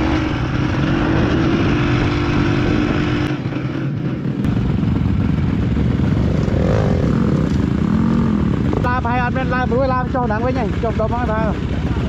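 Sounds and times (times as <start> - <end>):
motorcycle engine running: 0.0 - 12.0
road noise: 0.0 - 12.0
rushing wind: 0.0 - 12.0.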